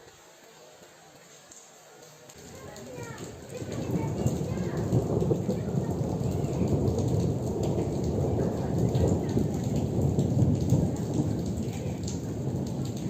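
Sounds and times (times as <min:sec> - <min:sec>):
heavy rain pouring: 0:00.0 - 0:13.0
rolling thunder rumble: 0:02.4 - 0:13.0.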